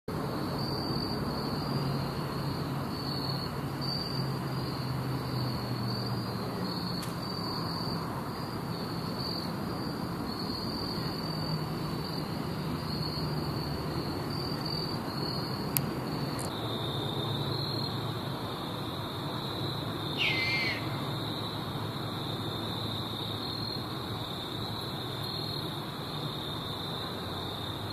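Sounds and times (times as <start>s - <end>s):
night insects trilling: 0.1s - 27.9s.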